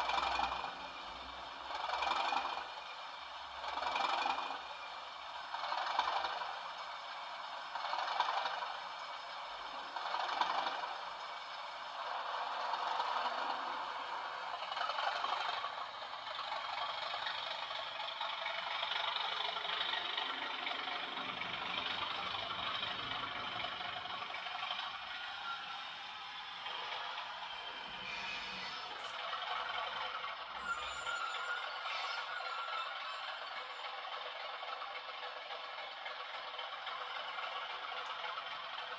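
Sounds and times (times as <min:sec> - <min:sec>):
rattly diesel engine running: 0:00.0 - 0:38.9.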